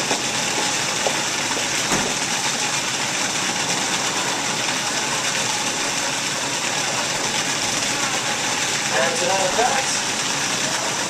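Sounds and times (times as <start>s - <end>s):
food processor motor running: 0.0s - 11.0s.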